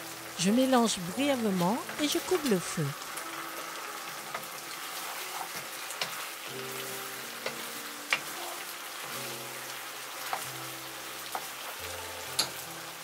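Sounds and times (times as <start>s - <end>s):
sauce sizzling in frying pan: 0.0s - 13.0s.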